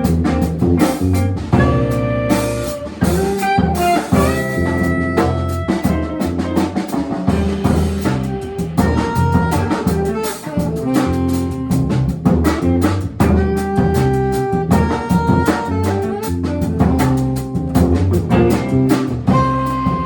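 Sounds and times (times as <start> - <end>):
drum kit cymbal and drum pattern: 0.0 - 20.0
guitar notes: 0.0 - 20.0
low bass line: 0.0 - 20.0.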